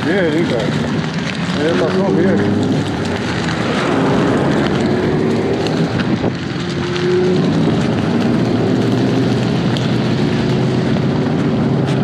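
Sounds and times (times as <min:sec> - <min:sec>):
vehicle engine running: 0:00.0 - 0:12.0
wind noise on microphone: 0:00.0 - 0:12.0.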